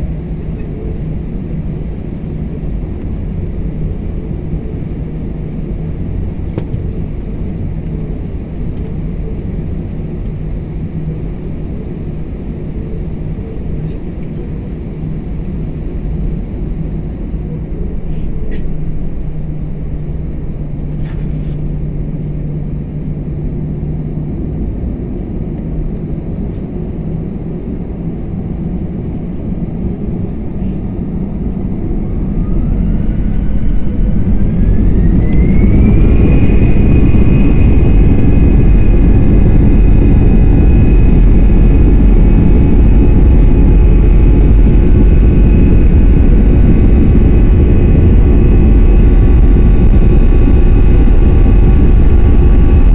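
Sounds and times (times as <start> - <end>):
airliner engines rumbling: 0.0 - 52.9
jet engine whine: 0.0 - 52.9.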